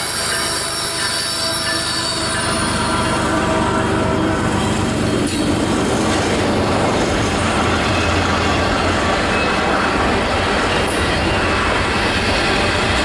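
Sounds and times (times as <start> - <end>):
freight train rumbling and rattling: 0.0 - 13.0.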